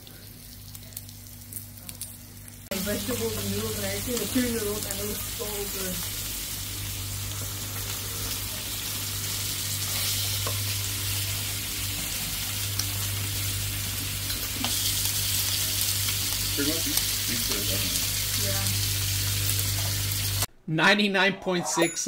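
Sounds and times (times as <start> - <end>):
meat sizzling on a grill: 0.0 - 20.5
low electric hum: 0.0 - 22.0.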